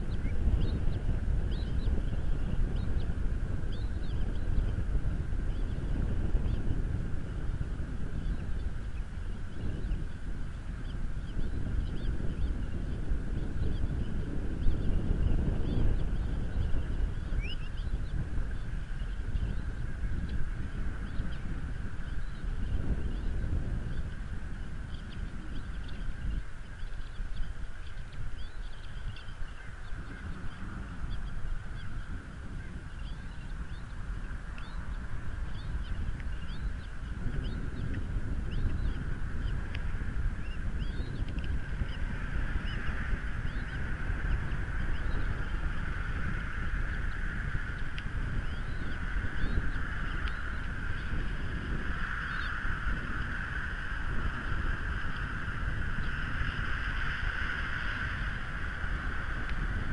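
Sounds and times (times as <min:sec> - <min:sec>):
low wind rumble: 0:00.0 - 0:59.9.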